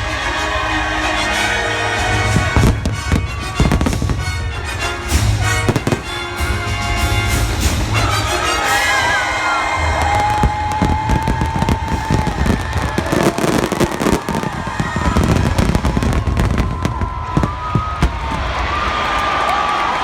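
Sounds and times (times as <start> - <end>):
fireworks bursting and crackling: 2.0 - 20.0
whistling fireworks: 2.0 - 20.0.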